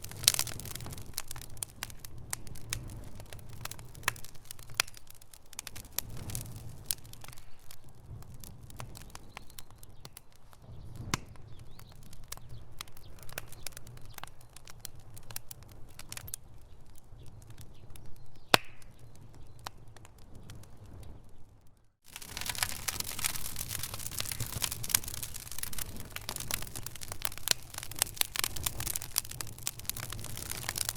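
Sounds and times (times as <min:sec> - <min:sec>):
low rumble of flames: 0:00.0 - 0:30.9
wood fire crackling and popping: 0:00.0 - 0:30.9.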